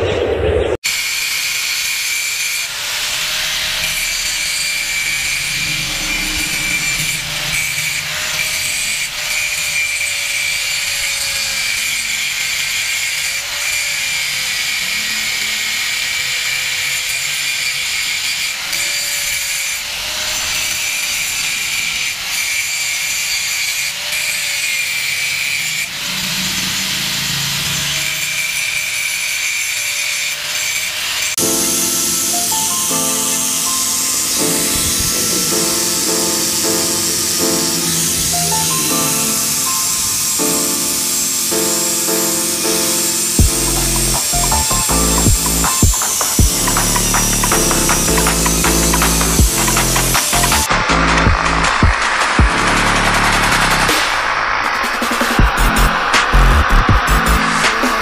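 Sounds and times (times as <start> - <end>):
angle grinder cutting steel: 0.8 - 58.0.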